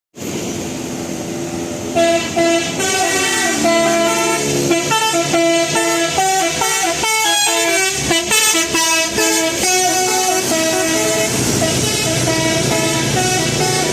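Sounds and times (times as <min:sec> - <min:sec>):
bus musical horn playing tune: 0:01.9 - 0:13.9.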